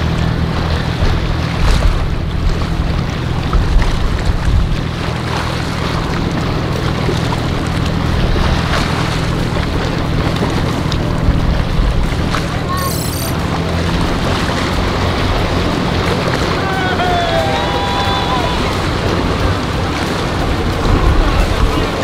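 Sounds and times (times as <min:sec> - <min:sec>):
wind buffeting microphone: 0:00.0 - 0:12.8, 0:13.4 - 0:22.0
motorboat engine drone: 0:00.0 - 0:22.0
water splashing of wake: 0:00.0 - 0:22.0.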